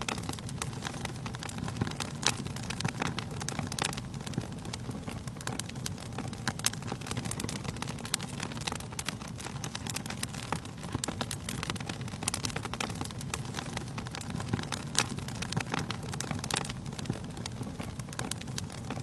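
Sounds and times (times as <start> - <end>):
logs crackling and popping: 0.0 - 19.0
fire flame rushing: 0.1 - 19.0.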